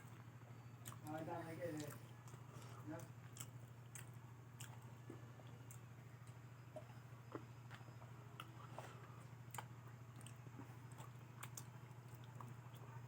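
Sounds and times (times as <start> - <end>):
low steady hum: 0.0 - 13.0
chewing crunches: 0.8 - 1.2, 1.8 - 13.0.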